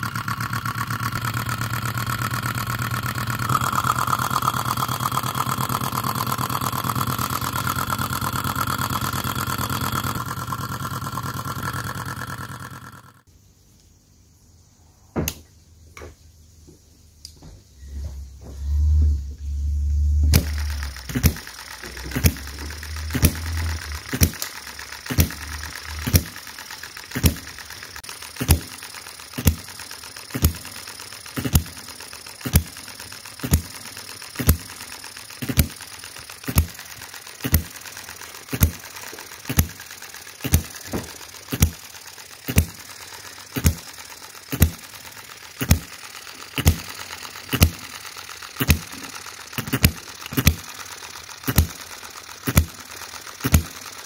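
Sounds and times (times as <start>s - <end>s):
mechanical whir of flywheels: 0.0s - 13.3s, 17.8s - 54.0s
small petrol engine popping: 0.0s - 13.3s, 18.5s - 54.0s.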